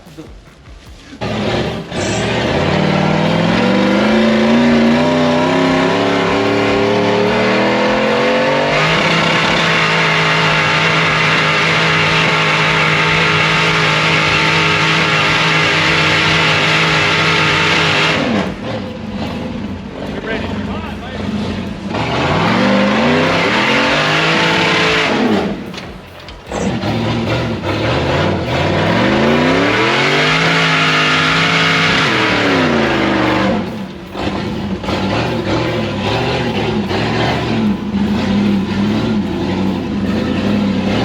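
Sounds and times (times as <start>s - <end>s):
off-road vehicle engine revving: 0.0s - 41.0s.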